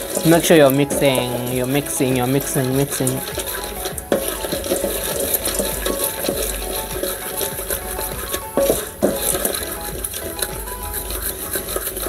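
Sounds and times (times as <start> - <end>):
kernels rattling in metal pot: 0.0 - 12.0.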